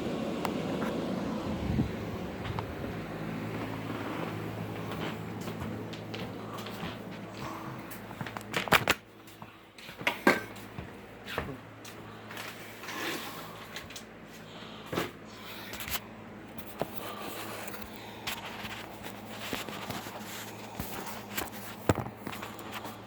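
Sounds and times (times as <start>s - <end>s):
rustling and scraping: 3.4s - 23.0s.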